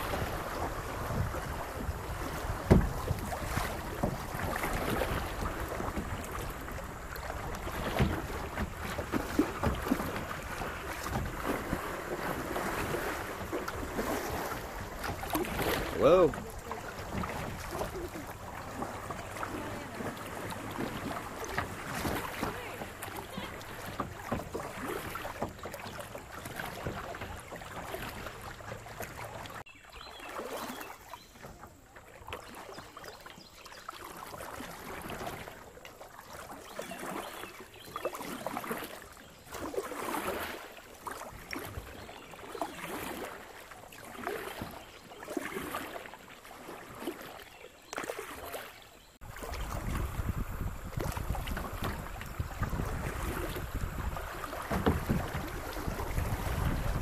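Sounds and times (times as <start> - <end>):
kayak paddle splashing: 0.0 - 57.0
rushing water: 0.0 - 57.0.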